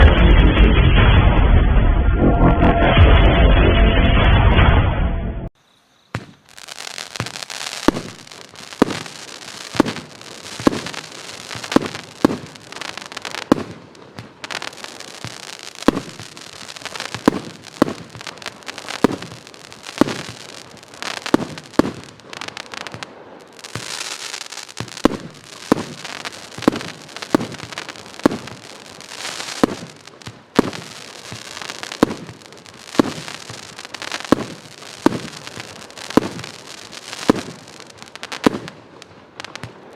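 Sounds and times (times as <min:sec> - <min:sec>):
firework shots: 0:06.1 - 0:39.9
firework hissing and crackling: 0:06.2 - 0:39.9.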